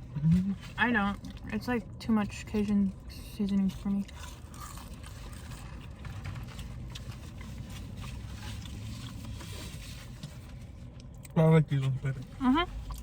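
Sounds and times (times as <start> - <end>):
eating and chewing sounds: 0.0 - 11.4, 12.2 - 13.0.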